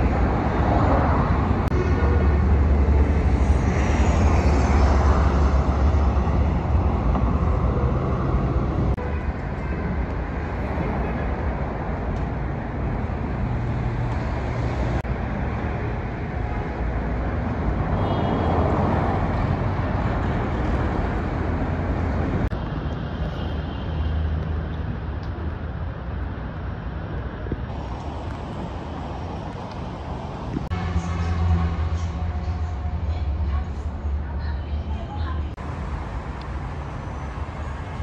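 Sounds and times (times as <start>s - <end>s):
cars driving past: 0.0s - 25.3s, 26.2s - 38.0s.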